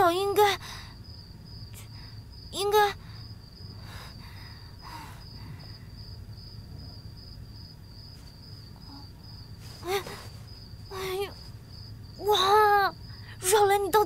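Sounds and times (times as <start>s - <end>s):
crickets chirping: 0.0s - 14.0s
low steady hum: 0.0s - 14.0s.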